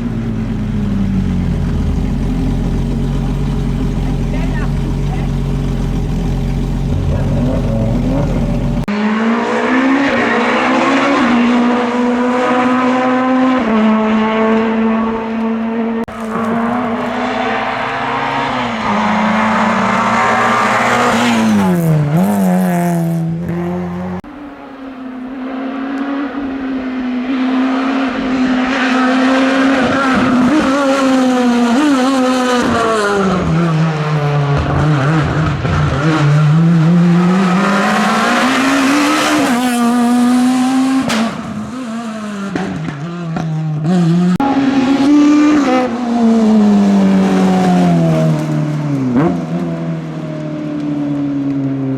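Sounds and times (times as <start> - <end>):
rally car engine revving: 0.0 - 51.9.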